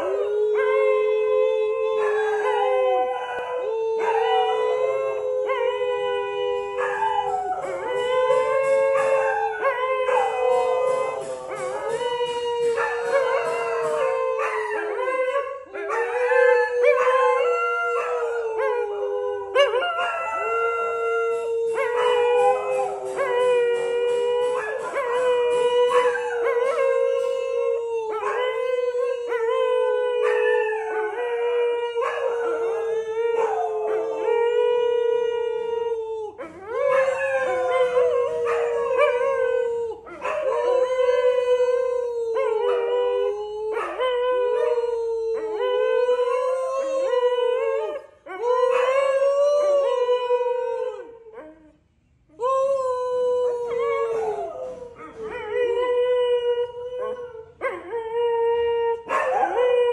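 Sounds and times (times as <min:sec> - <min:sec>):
dog howling: 0:00.0 - 0:51.8, 0:52.4 - 0:59.9.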